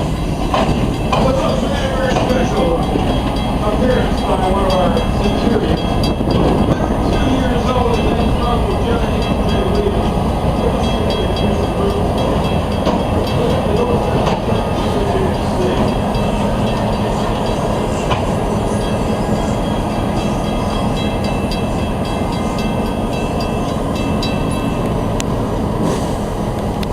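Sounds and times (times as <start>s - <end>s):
train wheels rumbling on rail: 0.0s - 26.9s.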